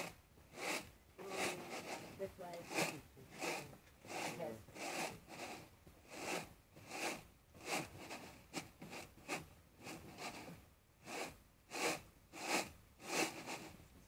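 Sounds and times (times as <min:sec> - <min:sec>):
rice swishing on bamboo tray: 0:00.0 - 0:13.8.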